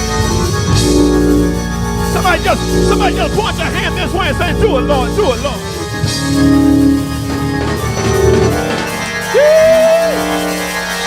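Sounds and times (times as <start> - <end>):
church worship music on keyboard: 0.0 - 11.0
drums: 0.0 - 11.0.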